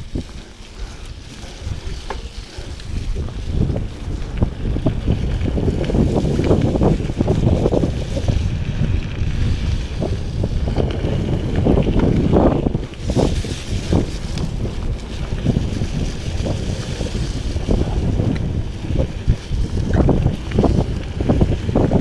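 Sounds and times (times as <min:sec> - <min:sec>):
bike frame rattle: 0:00.0 - 0:22.0
bike tyre rumble: 0:00.0 - 0:22.0
wind buffeting microphone: 0:00.0 - 0:22.0.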